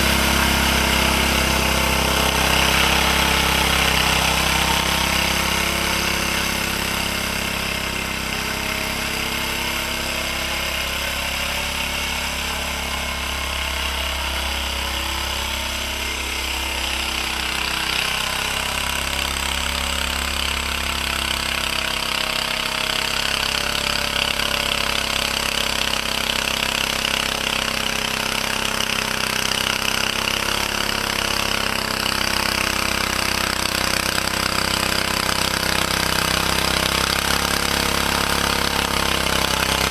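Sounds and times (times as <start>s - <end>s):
small tractor engine chattering: 0.0s - 39.9s.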